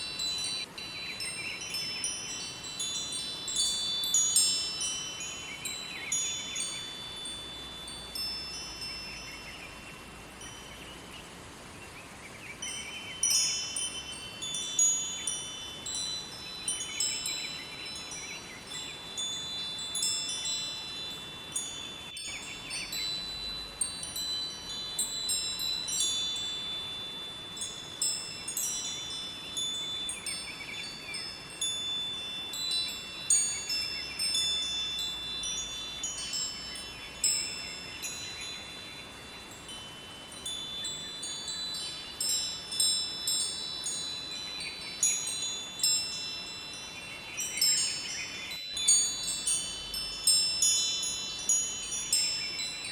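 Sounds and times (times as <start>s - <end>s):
wind chimes ringing: 0.0s - 11.7s, 12.5s - 52.9s.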